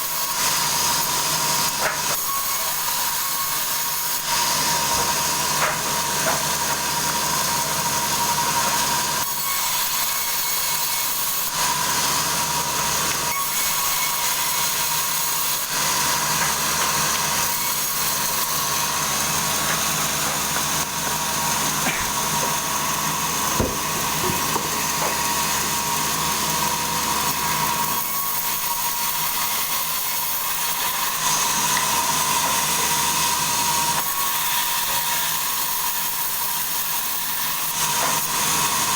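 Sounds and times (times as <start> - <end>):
saw cutting through log: 0.0 - 38.9.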